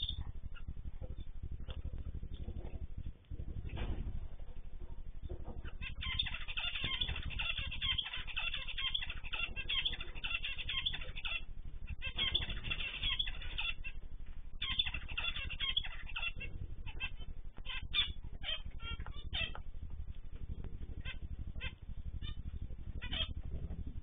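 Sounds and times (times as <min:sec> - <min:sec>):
aviary birds chirping: 0:00.0 - 0:24.0.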